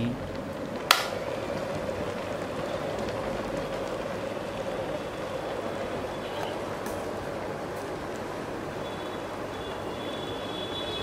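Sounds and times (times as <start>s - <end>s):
kettle water boiling: 0.0s - 11.0s.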